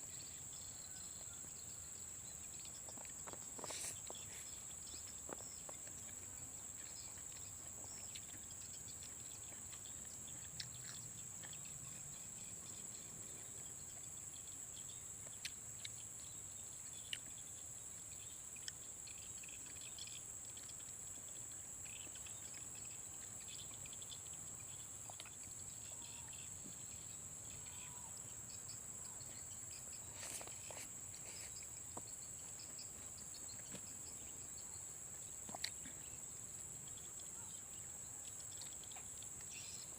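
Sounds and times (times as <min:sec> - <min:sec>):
insects droning: 0:00.0 - 0:39.9
small chirps: 0:00.1 - 0:39.9.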